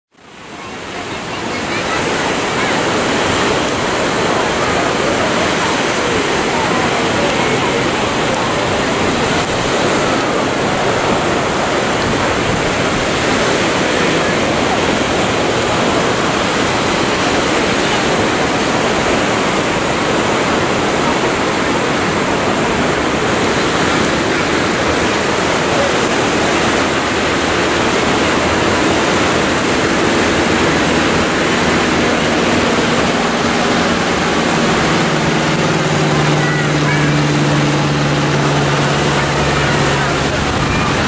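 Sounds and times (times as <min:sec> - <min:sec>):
propeller plane engine drone: 0:00.1 - 0:41.0
steady rushing noise: 0:00.1 - 0:41.0.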